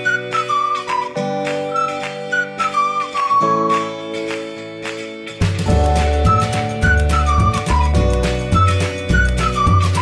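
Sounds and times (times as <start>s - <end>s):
flute-like melody: 0.0s - 4.5s, 5.7s - 10.0s.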